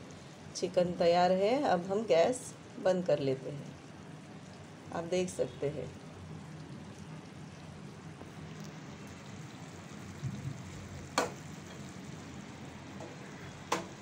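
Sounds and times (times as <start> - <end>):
faint sizzle of chicken: 0.0 - 14.0.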